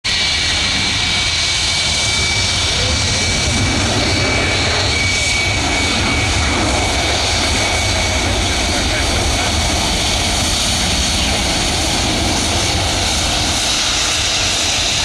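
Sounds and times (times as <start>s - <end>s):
jet engines running: 0.1s - 15.0s.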